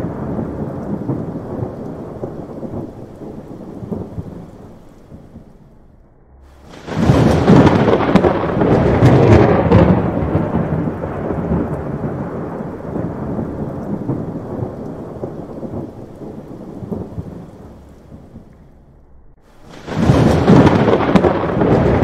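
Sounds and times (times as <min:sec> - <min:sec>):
thunder clap and rumble: 0:00.0 - 0:22.0.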